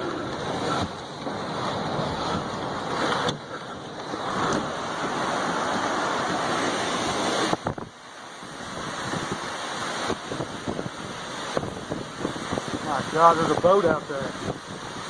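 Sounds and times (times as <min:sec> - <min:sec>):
lake waves: 0:00.0 - 0:15.0
strong wind buffeting microphone: 0:00.0 - 0:15.0.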